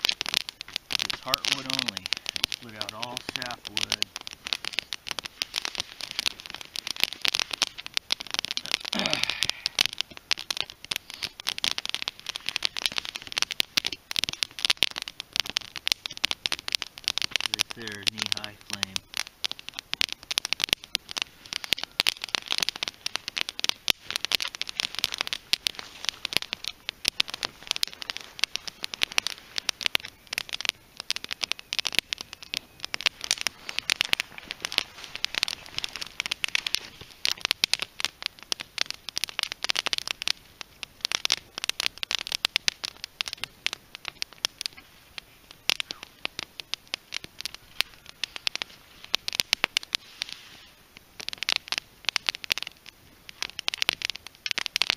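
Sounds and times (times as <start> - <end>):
fire crackling and popping: 0.0 - 54.9.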